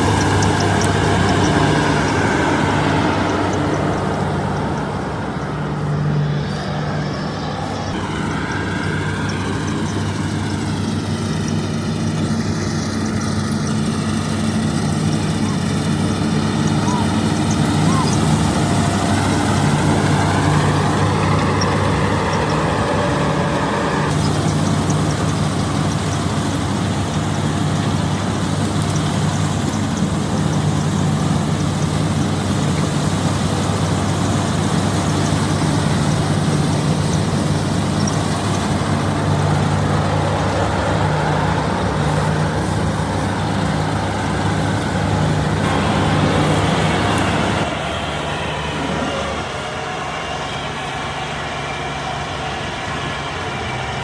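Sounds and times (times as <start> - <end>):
diesel engine drone: 0.0 - 54.0
threshing machinery noise: 0.0 - 54.0.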